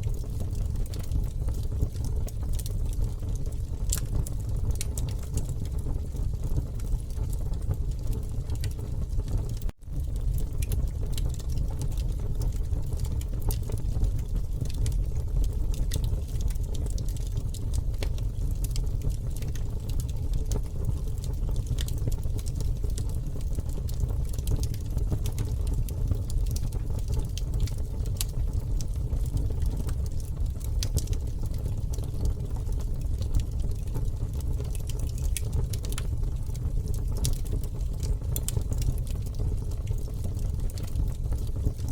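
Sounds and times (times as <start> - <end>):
burning wood crackling and popping: 0.0 - 41.9
campfire flames rumbling: 0.0 - 41.9.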